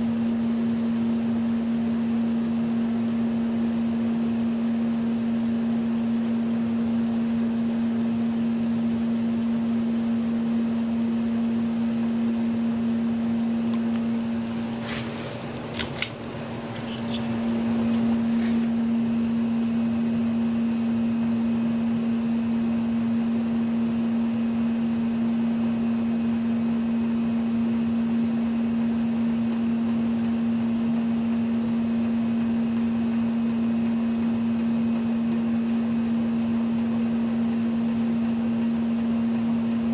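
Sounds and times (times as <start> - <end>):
ceiling fan motor hum: 0.0 - 39.9.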